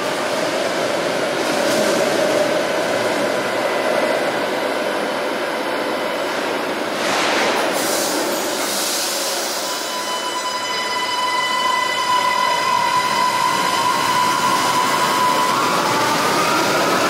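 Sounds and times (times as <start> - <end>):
train rumbling with whine: 0.0 - 17.0.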